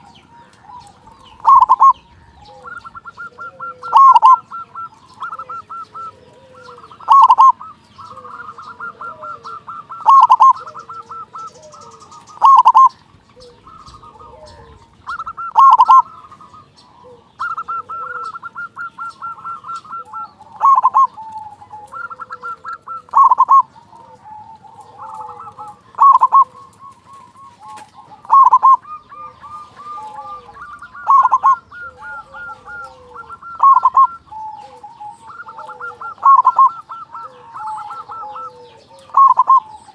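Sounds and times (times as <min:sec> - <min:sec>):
dove cooing: 0:00.0 - 0:39.9
soft trilling coos: 0:00.0 - 0:39.9.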